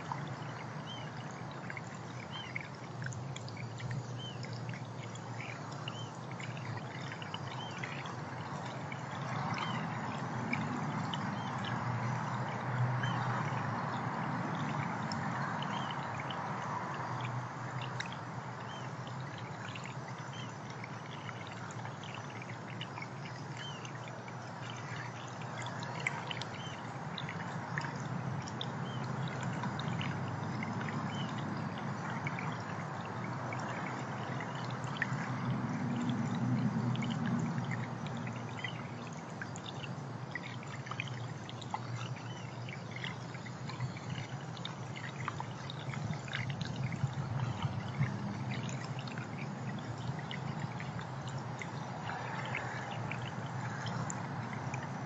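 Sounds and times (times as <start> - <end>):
water trickling and pouring: 0.0 - 55.0.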